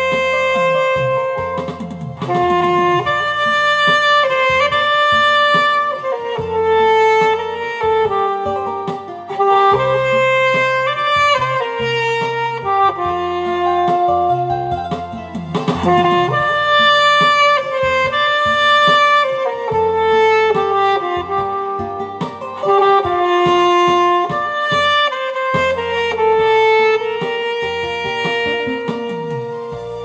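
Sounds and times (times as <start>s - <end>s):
alto saxophone melody: 0.0s - 30.0s
backing track with bass line: 0.0s - 30.0s.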